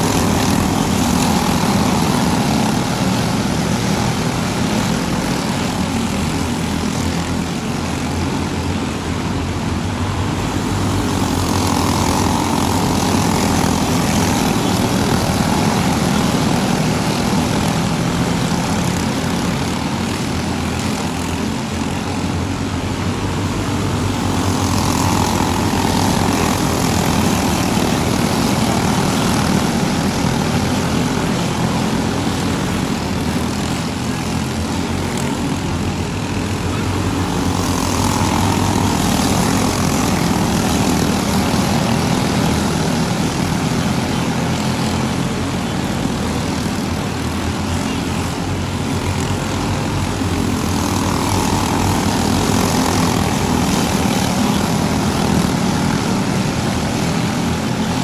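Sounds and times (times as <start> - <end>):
go-kart engines buzzing: 0.0 - 58.0.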